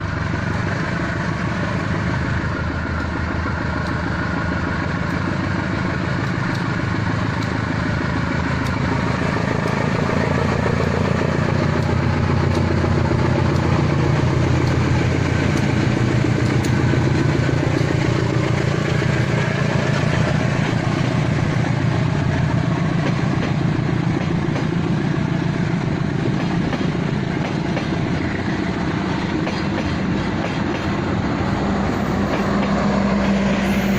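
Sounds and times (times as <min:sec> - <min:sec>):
passenger train rumbling by: 0:00.0 - 0:33.9.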